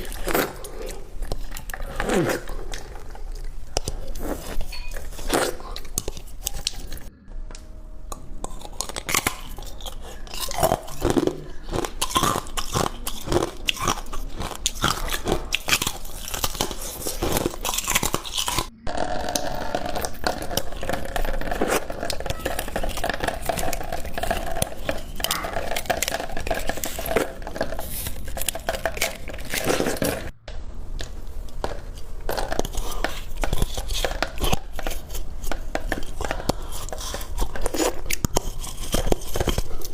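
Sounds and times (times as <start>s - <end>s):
ice being chewed: 0.0s - 7.1s, 8.4s - 30.3s, 31.4s - 39.9s.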